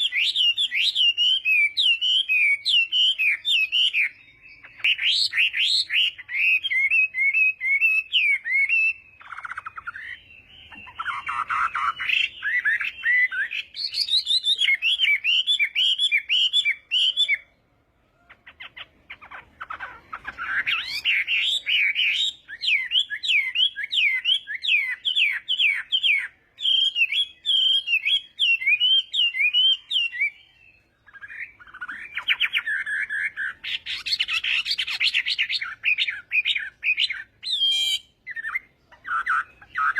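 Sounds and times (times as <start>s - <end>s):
bird whistling song: 0.0s - 39.9s.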